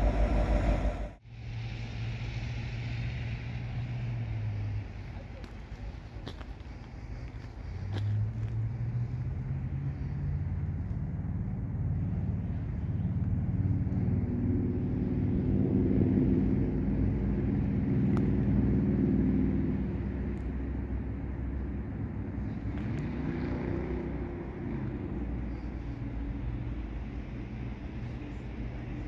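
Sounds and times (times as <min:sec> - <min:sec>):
locomotive engine droning: 0:00.0 - 0:29.0.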